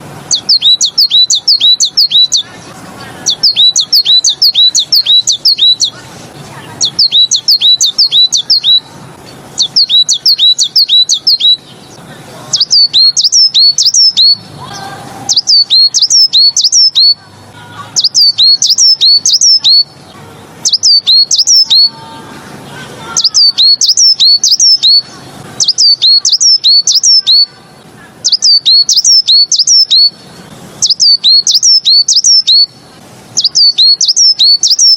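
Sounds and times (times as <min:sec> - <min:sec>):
songbird singing high notes: 0:00.0 - 0:34.9.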